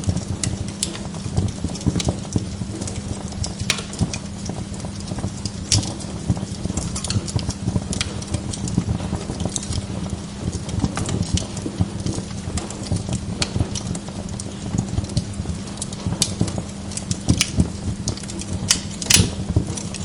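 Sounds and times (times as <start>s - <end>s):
log fire crackling: 0.0s - 20.0s.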